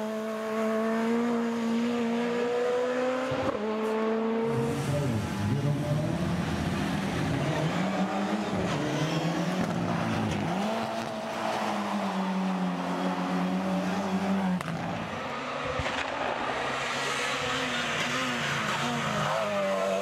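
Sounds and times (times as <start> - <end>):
distant rally car engine: 0.0 - 20.0
rally car engine revving: 0.0 - 20.0.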